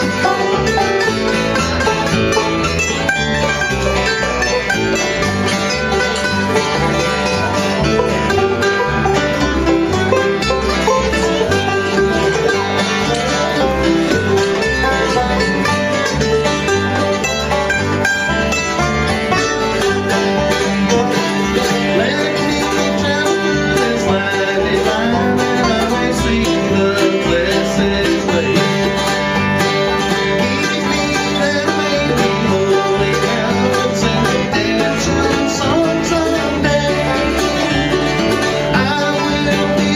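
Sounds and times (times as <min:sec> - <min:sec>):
banjo picking: 0:00.0 - 0:39.9
bass line: 0:00.0 - 0:39.9
bluegrass band playing: 0:00.0 - 0:39.9
guitar picking: 0:00.0 - 0:39.9.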